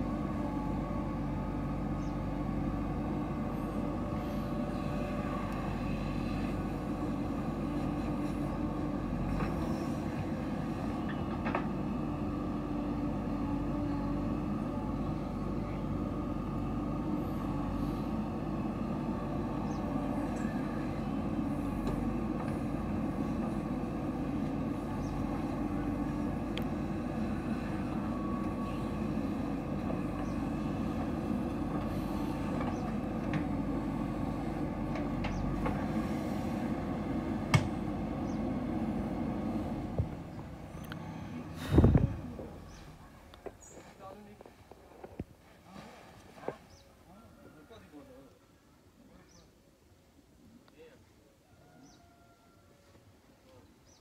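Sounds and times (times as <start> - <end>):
soil loading into truck: 0.0 - 44.1
diesel engine running: 0.0 - 44.5.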